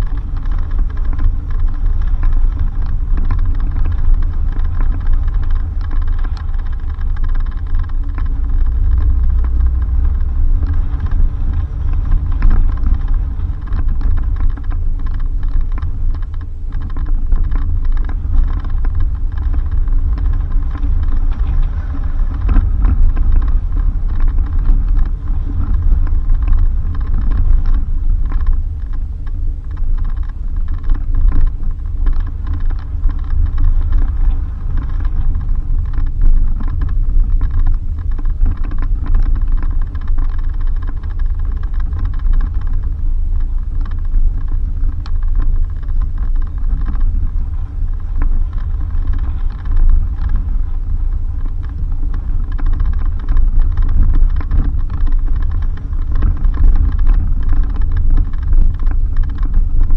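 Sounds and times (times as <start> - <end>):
engine and tyres rumbling: 0.0 - 59.9
knocks and rattles: 0.0 - 59.9.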